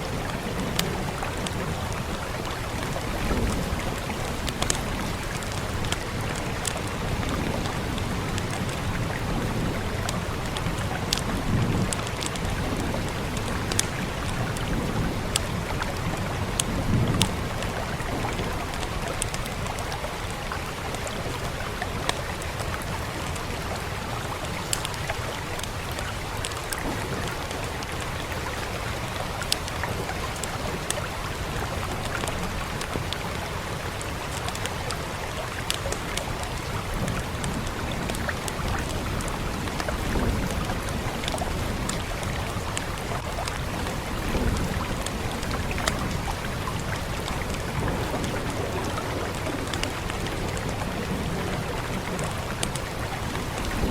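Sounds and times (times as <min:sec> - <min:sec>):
steady rain hiss: 0:00.0 - 0:53.9
wood fire crackling: 0:00.1 - 0:53.9.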